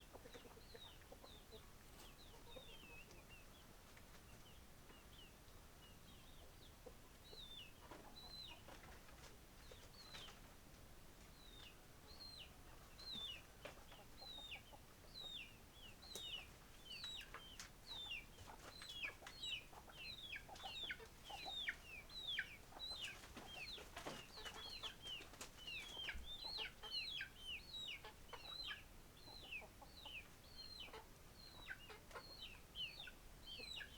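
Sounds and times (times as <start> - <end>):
chickens calling faintly: 0.0 - 33.9.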